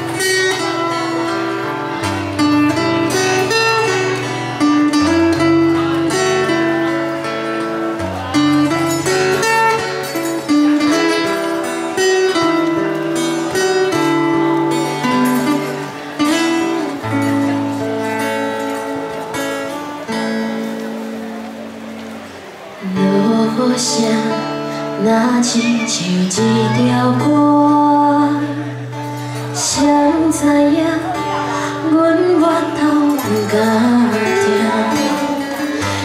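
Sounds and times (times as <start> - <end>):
plucked guitar melody: 0.0 - 36.0.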